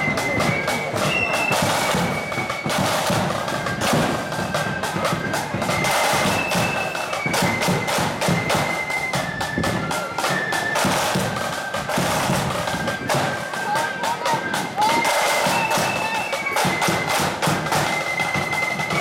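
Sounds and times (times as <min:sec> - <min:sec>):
heavy steady drumbeats: 0:00.0 - 0:19.0
marching band melody: 0:00.0 - 0:19.0.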